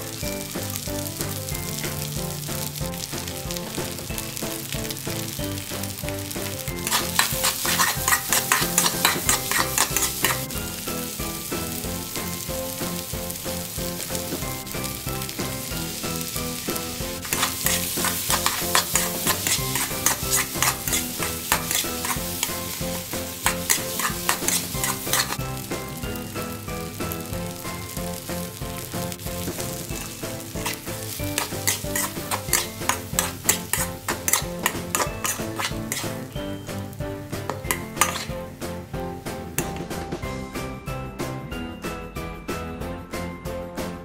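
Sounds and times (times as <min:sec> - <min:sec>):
rice sizzling in a hot pan: 0:00.0 - 0:39.7
spatula stirring and scraping: 0:00.8 - 0:26.2, 0:27.1 - 0:36.6, 0:37.4 - 0:38.5.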